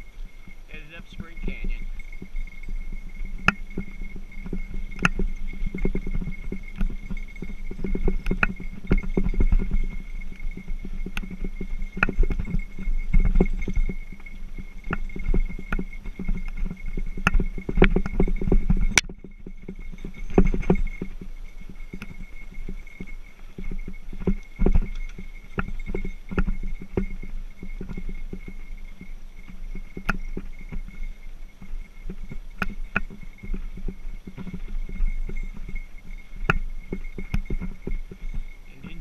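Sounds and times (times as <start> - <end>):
bike tyres rumbling on dirt: 0.0 - 39.0
bike clicks and rattles: 1.2 - 39.0.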